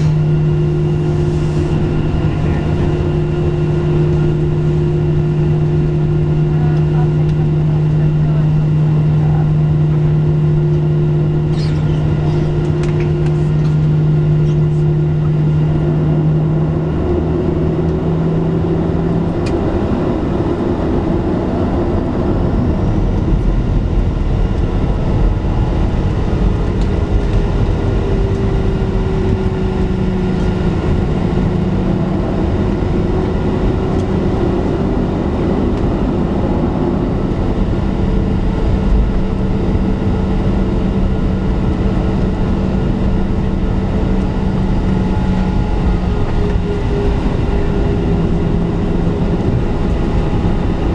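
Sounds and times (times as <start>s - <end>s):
deep rumble: 0.0s - 50.9s
jet engines humming in cabin: 0.0s - 50.9s
low steady drone: 0.0s - 50.9s.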